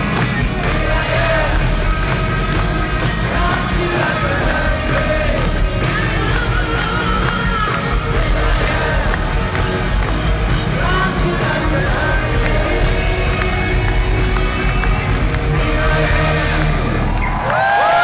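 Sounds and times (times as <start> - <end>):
hard rock band playing live: 0.0 - 17.4
person singing: 0.6 - 16.8.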